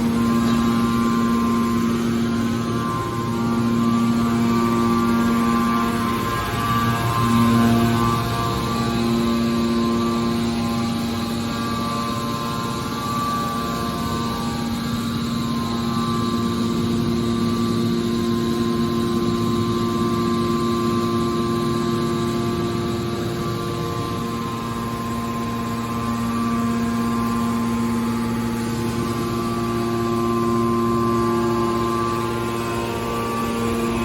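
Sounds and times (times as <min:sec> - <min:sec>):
hydraulic baler drone: 0:00.0 - 0:34.0.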